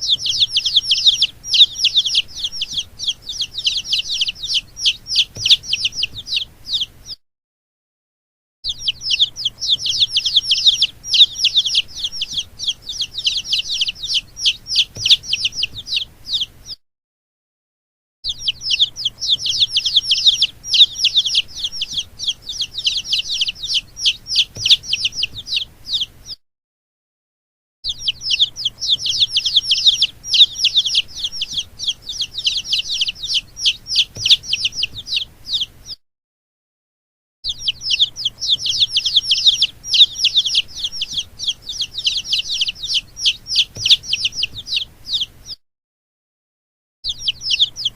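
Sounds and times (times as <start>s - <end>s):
baby chicks peeping: 0.0s - 7.2s, 8.7s - 16.8s, 18.3s - 26.4s, 27.8s - 36.0s, 37.4s - 45.6s, 47.0s - 47.9s.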